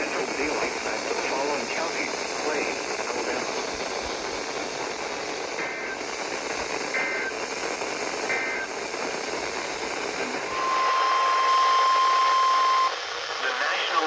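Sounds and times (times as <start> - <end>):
two-tone data bursts: 0.0 - 13.0
radio static hiss: 0.0 - 14.0.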